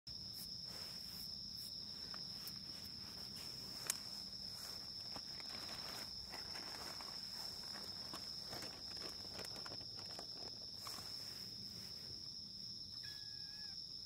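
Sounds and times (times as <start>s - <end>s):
high insect trill: 0.1s - 14.0s.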